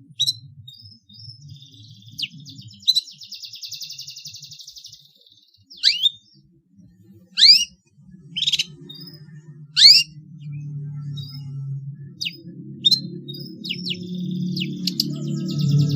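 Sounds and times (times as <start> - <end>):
bird singing trills and whistles: 0.0 - 6.4, 7.3 - 15.9
faint low hum: 0.0 - 15.9.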